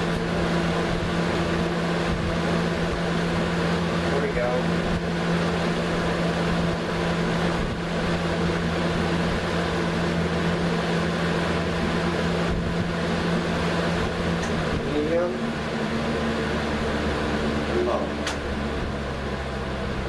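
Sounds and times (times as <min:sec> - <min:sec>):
box fan running: 0:00.0 - 0:20.0.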